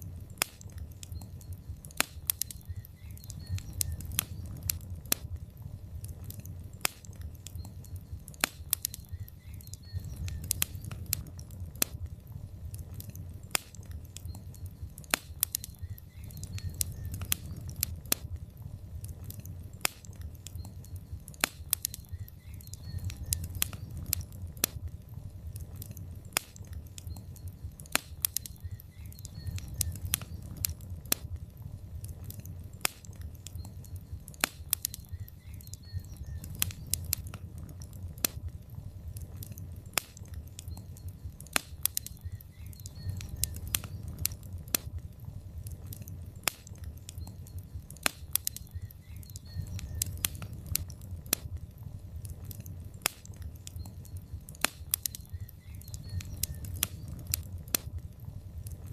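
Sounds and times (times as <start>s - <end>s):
log fire crackling: 0.0s - 58.9s
low rumble of flames: 0.0s - 58.9s.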